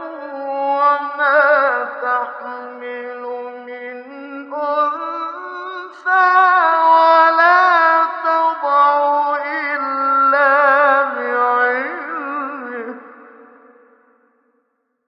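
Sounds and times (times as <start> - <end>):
man chanting unaccompanied: 0.0 - 13.2.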